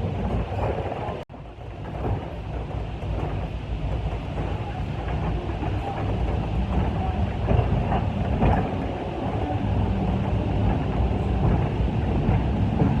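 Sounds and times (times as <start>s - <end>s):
train car rumbling on track: 0.0s - 13.0s.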